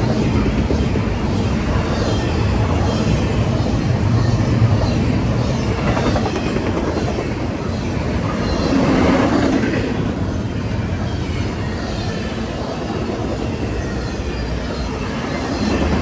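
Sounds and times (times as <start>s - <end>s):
freight train wheels clattering on rails: 0.0s - 16.0s.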